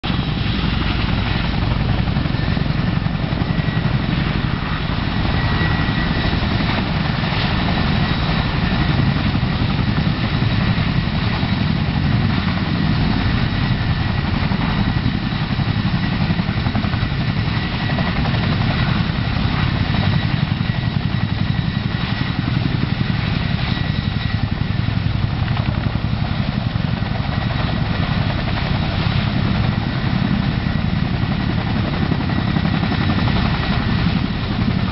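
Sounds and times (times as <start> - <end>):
helicopter rotor and engine noise: 0.0 - 34.9
high turbine whine: 0.0 - 34.9.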